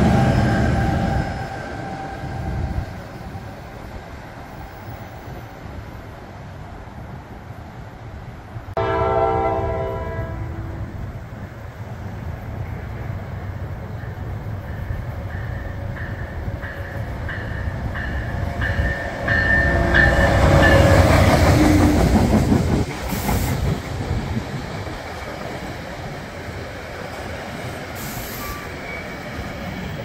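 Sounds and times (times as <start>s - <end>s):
commuter train passing: 0.0s - 30.0s.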